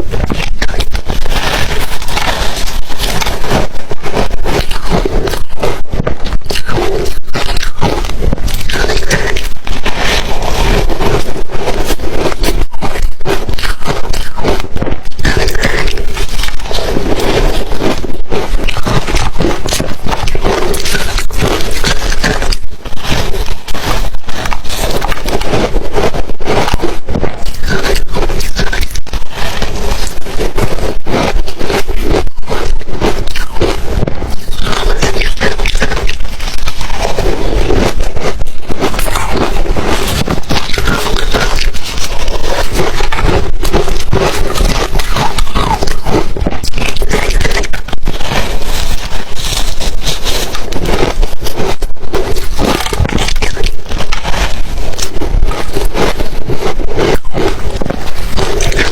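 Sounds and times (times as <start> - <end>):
ice crunching while chewed: 0.0 - 58.9.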